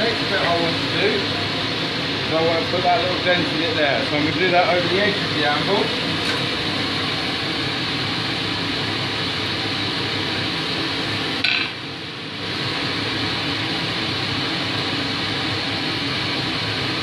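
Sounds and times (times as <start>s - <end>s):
forge fans rushing: 0.0s - 17.0s.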